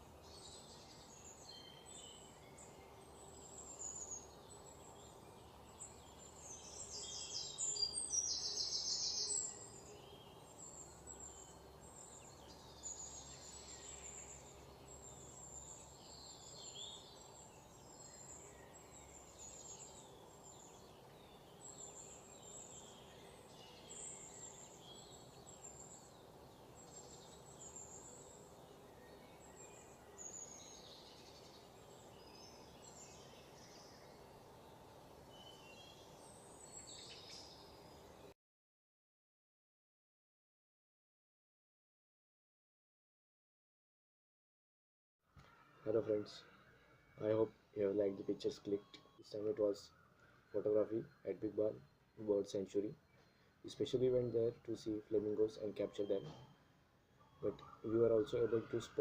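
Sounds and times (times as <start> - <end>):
small birds chirping: 0.0 - 38.3, 45.3 - 59.0.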